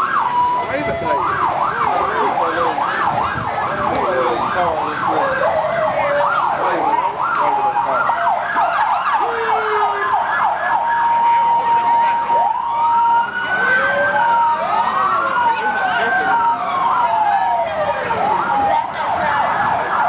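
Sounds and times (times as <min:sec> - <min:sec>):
emergency sirens yelping: 0:00.0 - 0:20.0
siren steady held tone: 0:00.0 - 0:20.0
siren wails: 0:00.0 - 0:20.0.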